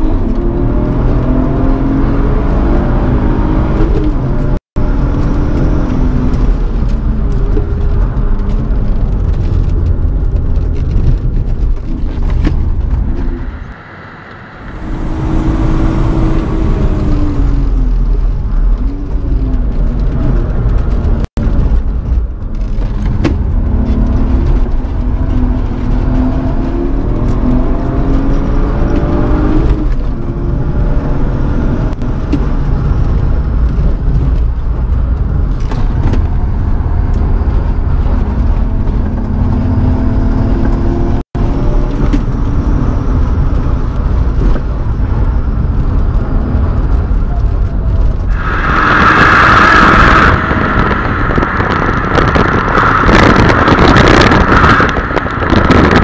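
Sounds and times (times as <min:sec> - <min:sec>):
car engine revving through gears: 0:00.0 - 0:21.8, 0:22.6 - 0:56.0
tyre and road noise: 0:00.0 - 0:56.0.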